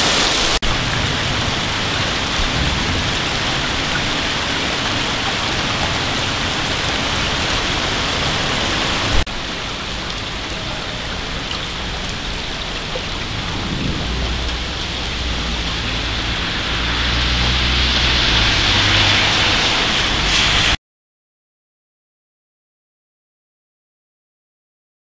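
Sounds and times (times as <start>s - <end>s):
heavy rain: 0.0s - 20.8s
low rumble: 0.6s - 20.8s.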